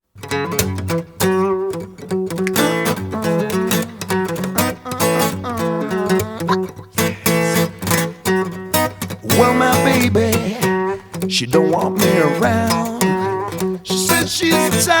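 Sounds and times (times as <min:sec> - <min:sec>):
guitar instrumental song: 0:00.1 - 0:15.0.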